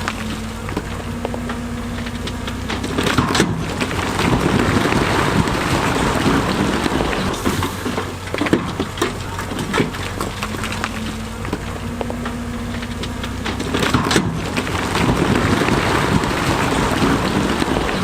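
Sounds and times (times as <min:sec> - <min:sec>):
diesel engine running: 0:00.0 - 0:18.0
stones rumbling and clattering: 0:00.0 - 0:18.0.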